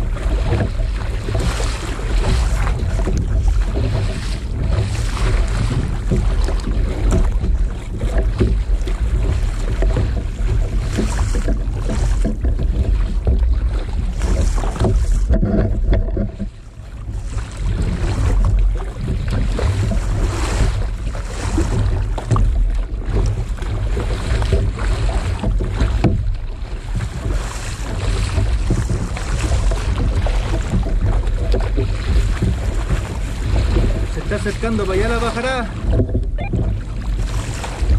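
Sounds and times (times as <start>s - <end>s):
paddle strokes splashing in water: 0.0s - 37.9s
water slapping plastic hull: 0.0s - 37.9s
wind buffeting microphone: 0.0s - 37.9s.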